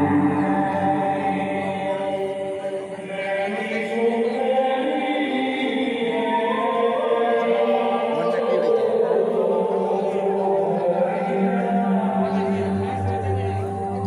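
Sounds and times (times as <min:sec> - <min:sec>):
music: 0:00.0 - 0:14.0
voices chanting long held notes: 0:00.0 - 0:14.0.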